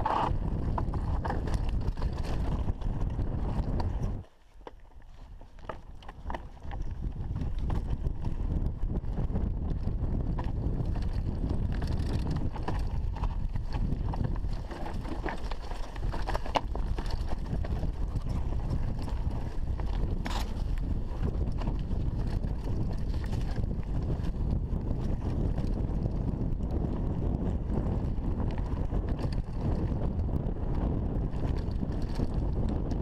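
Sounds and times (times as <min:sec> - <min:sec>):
bike clattering and rattling: 0:00.0 - 0:33.0
bike tyres crunching over stones: 0:00.0 - 0:33.0
wind rumble on microphone: 0:00.0 - 0:33.0.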